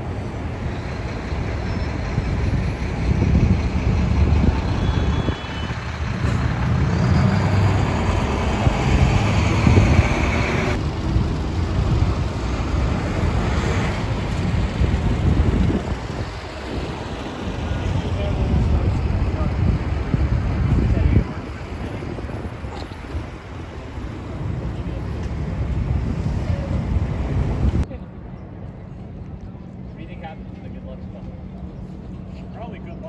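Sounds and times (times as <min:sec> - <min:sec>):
rumble of passing traffic: 0:00.0 - 0:33.0.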